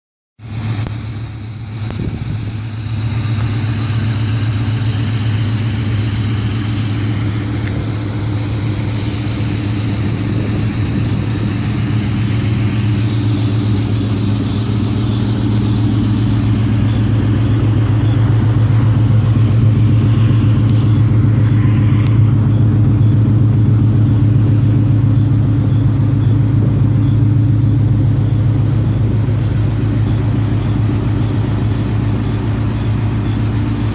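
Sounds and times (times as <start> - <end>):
car engine idling: 0.4 - 33.9
rapid clicking from engine: 0.5 - 33.9.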